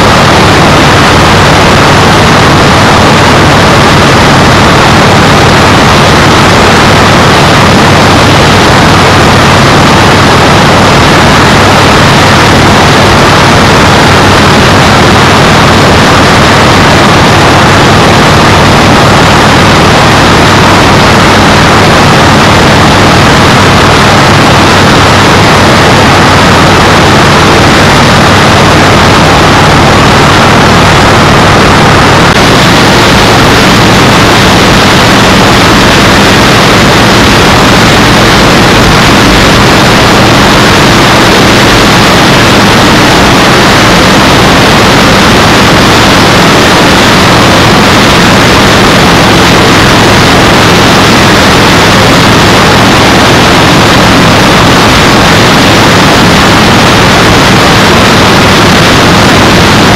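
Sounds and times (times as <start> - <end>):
low engine drone: 0.0 - 59.9
wind rushing over microphone: 0.0 - 59.9.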